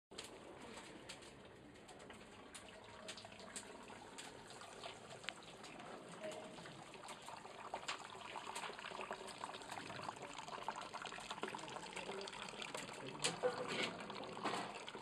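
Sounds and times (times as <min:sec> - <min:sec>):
liquid trickling and bubbling: 0:00.1 - 0:15.0
small splashes and pops: 0:00.1 - 0:15.0.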